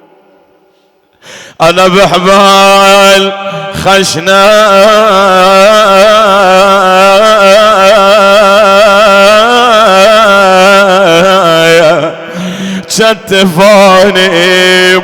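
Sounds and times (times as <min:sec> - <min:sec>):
man chanting a lament: 0:01.3 - 0:15.0.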